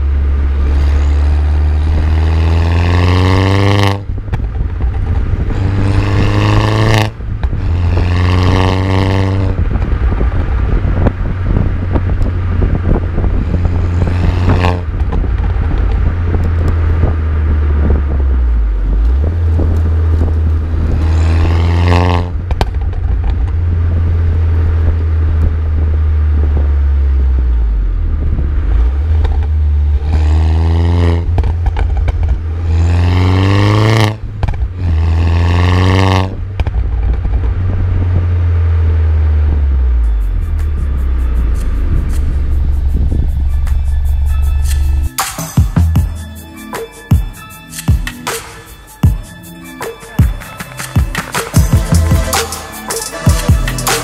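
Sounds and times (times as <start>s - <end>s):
car exhaust accelerating: 0.0s - 45.2s
exhaust crackles: 0.0s - 45.2s
wind rumble on microphone: 0.0s - 45.2s.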